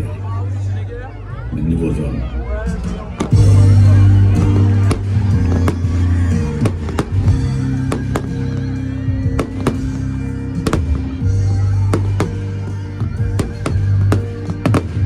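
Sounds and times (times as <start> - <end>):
loud music: 0.0 - 15.0
fireworks exploding: 2.8 - 15.0.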